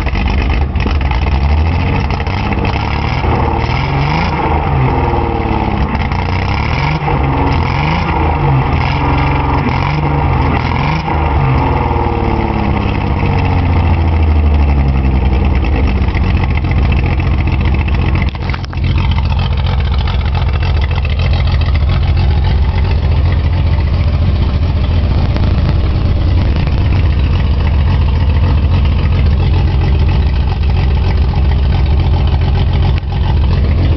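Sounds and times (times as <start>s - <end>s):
car engine idling rough: 0.0s - 33.9s.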